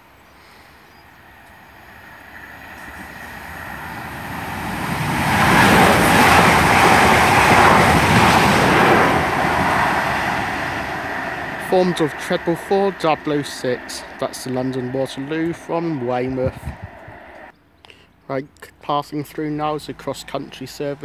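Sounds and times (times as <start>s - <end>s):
train rushing on rails: 0.0s - 17.5s.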